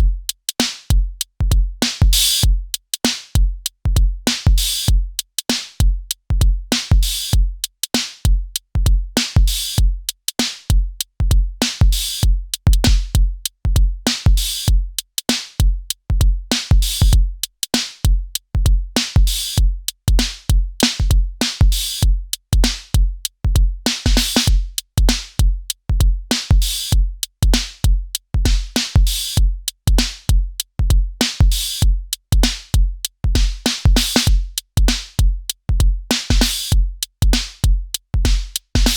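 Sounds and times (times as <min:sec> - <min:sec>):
electronic drum beat: 0:00.0 - 0:38.9.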